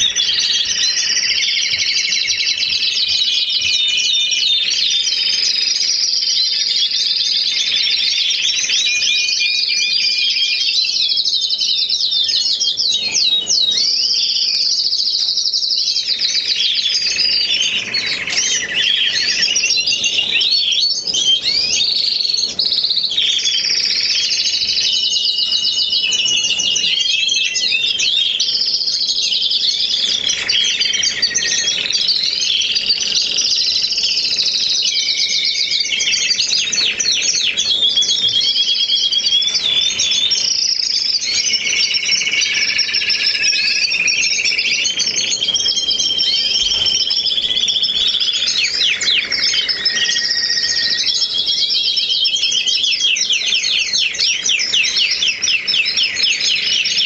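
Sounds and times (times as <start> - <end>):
canaries singing: 0.0 - 57.0.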